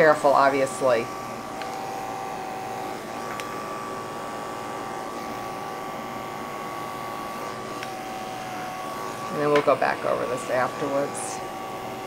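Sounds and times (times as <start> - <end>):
electric clipper humming: 0.0 - 12.0.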